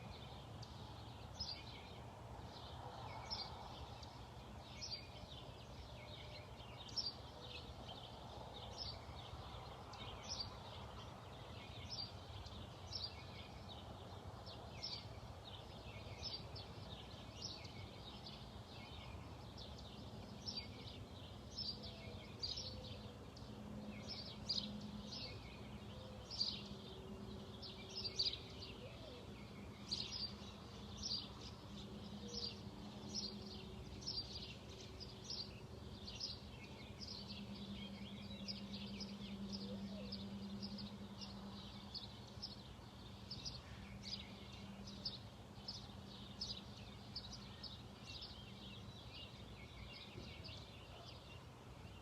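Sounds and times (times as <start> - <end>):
faint low hum: 0.0 - 52.0
small birds chirping: 0.0 - 52.0.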